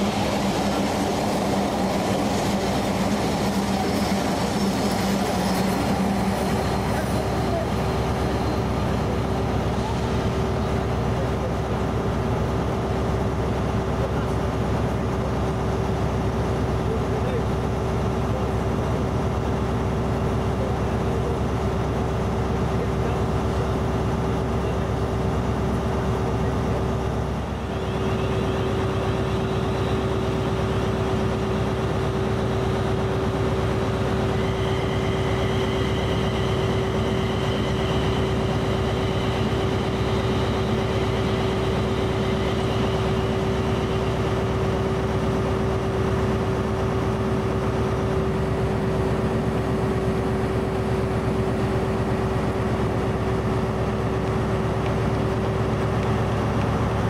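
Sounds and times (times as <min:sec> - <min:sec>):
train machinery humming: 0:00.0 - 0:57.0.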